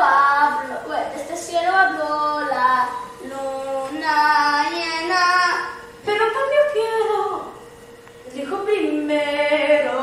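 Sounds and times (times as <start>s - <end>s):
girl singing: 0.0s - 7.5s, 8.2s - 10.0s.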